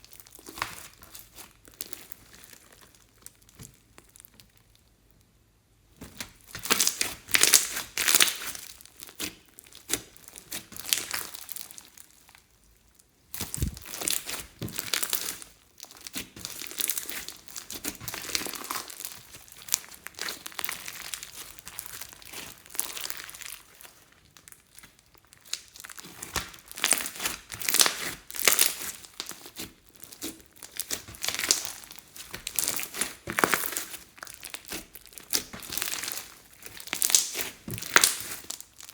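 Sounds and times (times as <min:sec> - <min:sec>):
hands kneading slime: 0:00.0 - 0:05.0, 0:05.9 - 0:38.9.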